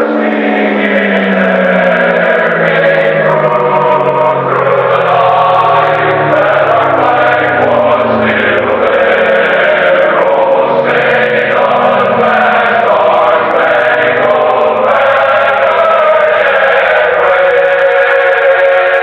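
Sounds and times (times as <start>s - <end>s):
choir singing long chords: 0.0s - 19.0s.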